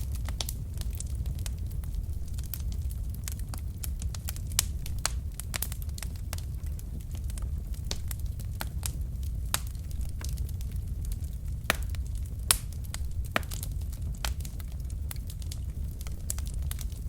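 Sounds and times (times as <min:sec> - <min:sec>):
logs crackling and popping: 0:00.0 - 0:17.0
low rumble of flame: 0:00.0 - 0:17.0.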